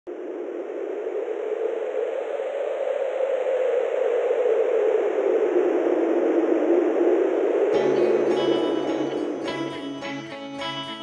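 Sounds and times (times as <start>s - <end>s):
steady rushing noise: 0.1s - 10.5s.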